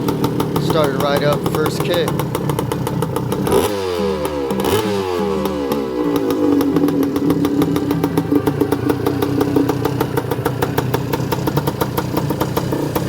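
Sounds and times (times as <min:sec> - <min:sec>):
two-stroke engine idling: 0:00.0 - 0:13.0.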